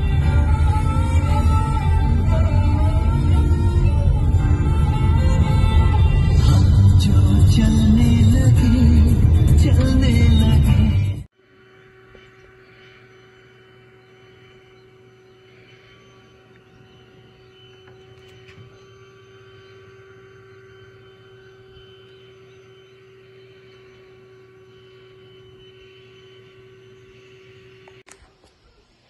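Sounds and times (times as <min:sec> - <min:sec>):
faint mechanical hum: 0:00.0 - 0:29.0.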